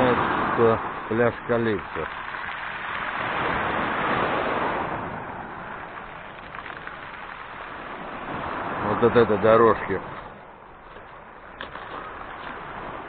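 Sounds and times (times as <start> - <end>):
sea wave washing onto shore: 0.0 - 13.0.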